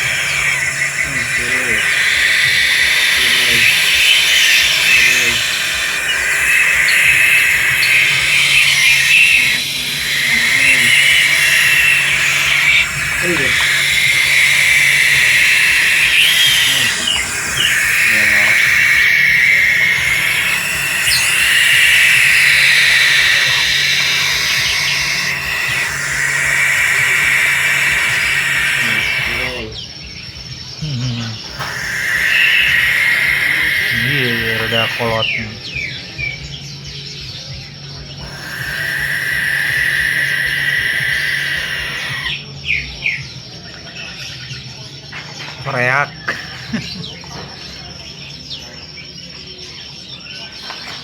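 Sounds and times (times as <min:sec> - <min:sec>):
owl hissing: 0:00.0 - 0:43.2, 0:45.7 - 0:48.0.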